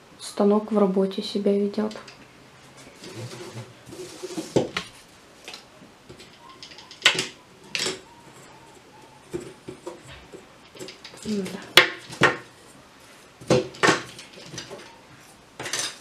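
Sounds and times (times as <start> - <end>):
rustling: 1.8 - 16.0.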